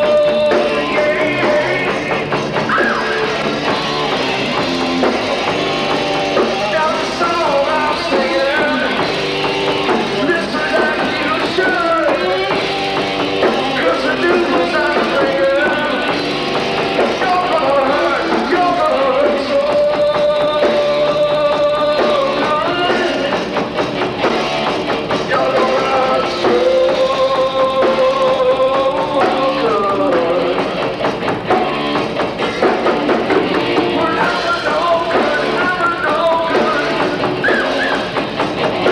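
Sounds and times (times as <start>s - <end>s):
drum kit: 0.0s - 38.9s
rock band playing live: 0.0s - 38.9s.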